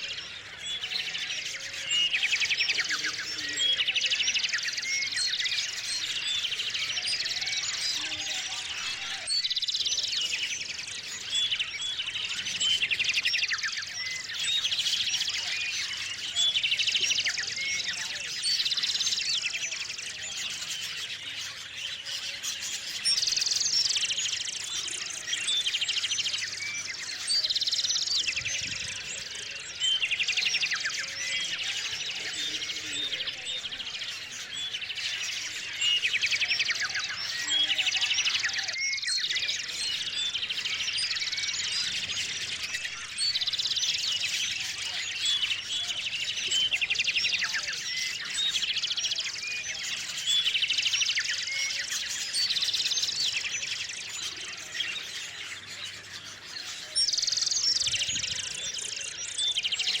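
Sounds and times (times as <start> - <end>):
songbirds chirping: 0.0 - 60.0.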